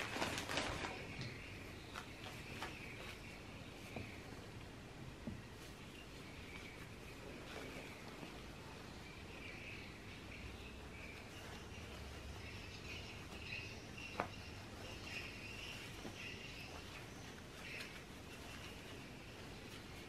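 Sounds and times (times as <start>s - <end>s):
faint high-pitched chirping: 0.0s - 20.0s.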